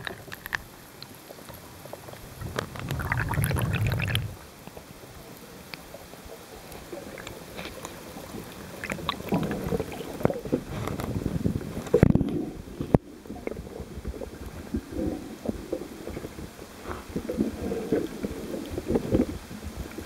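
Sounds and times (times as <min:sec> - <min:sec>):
underwater sloshing and gurgling: 0:00.0 - 0:20.0.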